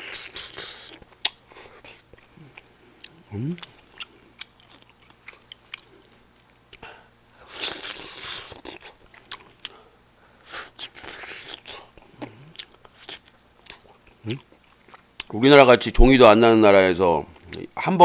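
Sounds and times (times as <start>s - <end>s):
person chewing food: 0.0s - 15.4s.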